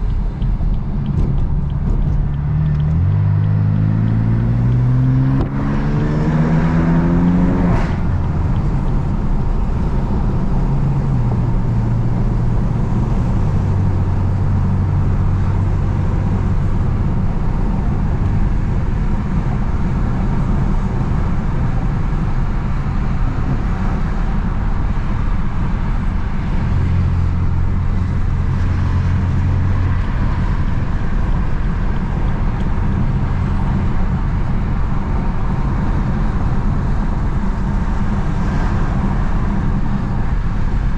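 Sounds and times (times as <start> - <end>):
car engine from inside cabin: 0.0 - 40.9
tyre and road noise: 0.0 - 40.9.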